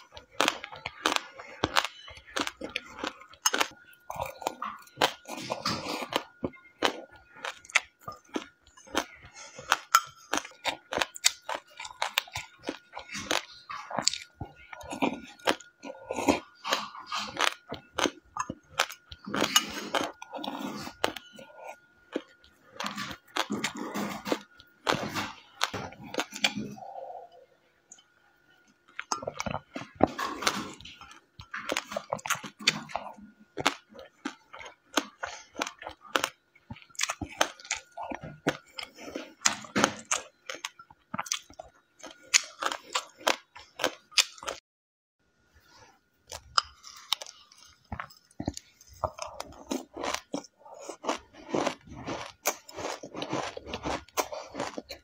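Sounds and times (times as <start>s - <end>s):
faint steady whine: 0.0s - 44.5s
chewing and crunching seeds: 0.0s - 44.6s, 45.7s - 55.0s.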